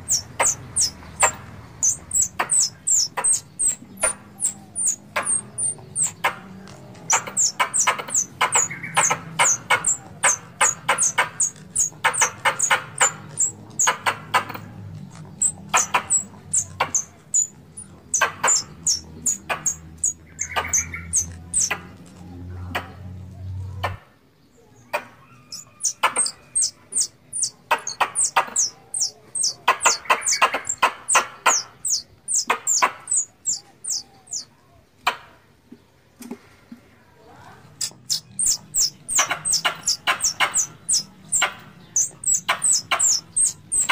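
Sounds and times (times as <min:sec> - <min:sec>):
squirrel chipping calls: 0:00.0 - 0:22.1, 0:24.8 - 0:35.3, 0:37.7 - 0:43.9.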